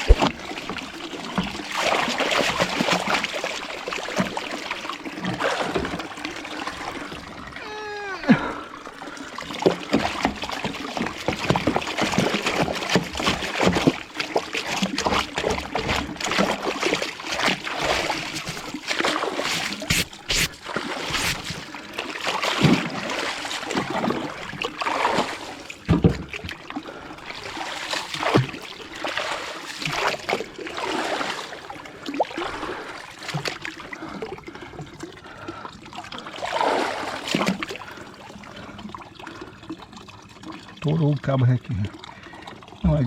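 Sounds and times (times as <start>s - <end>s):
water splashing and trickling: 0.0s - 43.0s.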